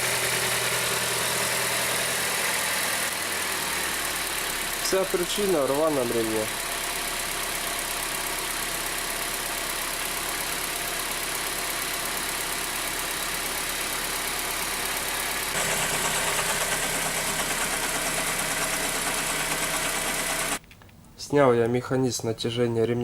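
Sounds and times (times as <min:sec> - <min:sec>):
car engine idling: 0:00.0 - 0:20.6.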